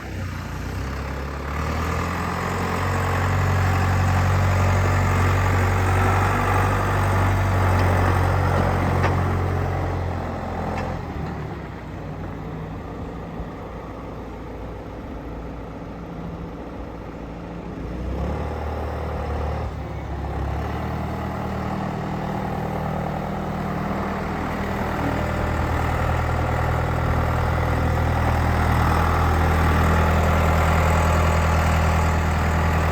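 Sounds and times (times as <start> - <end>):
tractor diesel engine idling: 0.0 - 17.8, 19.7 - 32.9.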